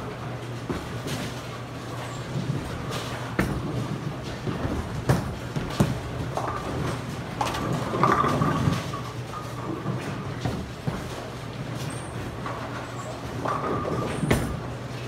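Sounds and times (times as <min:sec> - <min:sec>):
bowling balls rolling: 0:00.0 - 0:15.0
steady low hum: 0:00.0 - 0:15.0.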